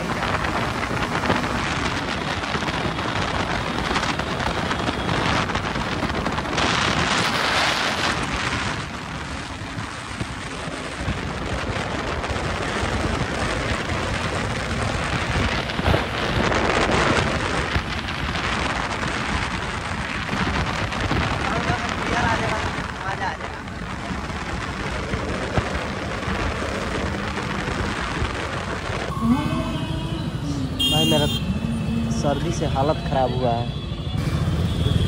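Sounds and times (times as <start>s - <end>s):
motorcycle and road noise: 0.0s - 35.0s
wind rush on microphone: 0.0s - 35.0s.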